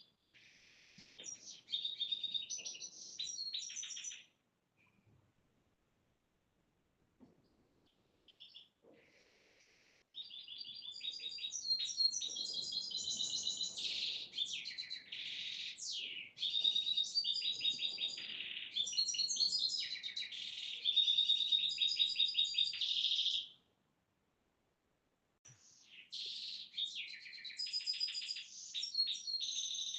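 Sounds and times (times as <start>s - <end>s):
songbird chirping and trilling: 0.0s - 5.0s, 7.8s - 23.7s, 25.5s - 29.9s.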